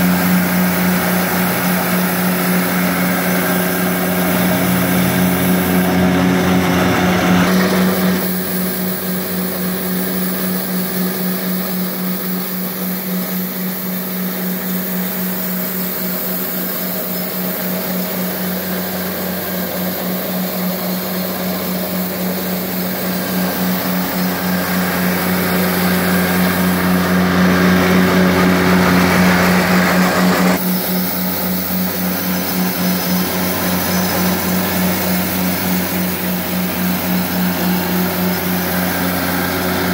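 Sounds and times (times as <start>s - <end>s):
diesel engine running: 0.0s - 39.9s
rotary broom brushing wet pavement: 0.0s - 39.9s.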